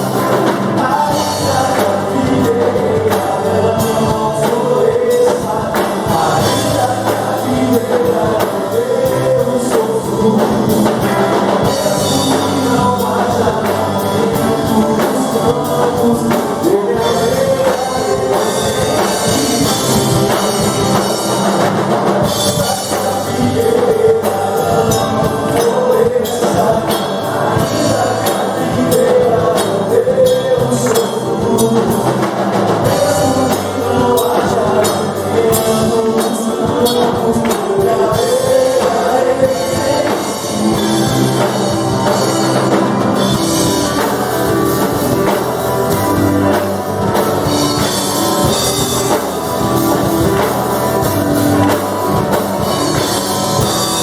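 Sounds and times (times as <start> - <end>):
worship band playing: 0.0 - 54.0.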